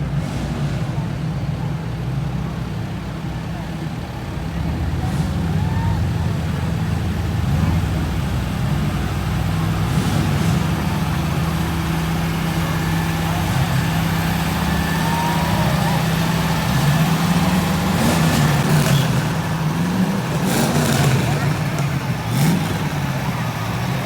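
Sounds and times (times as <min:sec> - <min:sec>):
faint crowd voices: 0:00.0 - 0:24.0
large engine idling: 0:00.0 - 0:24.0.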